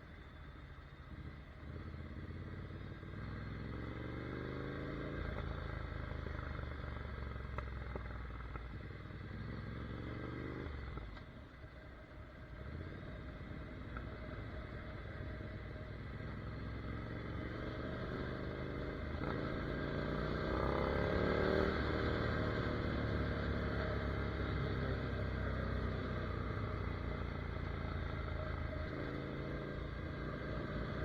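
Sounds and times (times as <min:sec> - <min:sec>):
motorcycle engine accelerating: 0:01.1 - 0:11.2, 0:12.5 - 0:31.0.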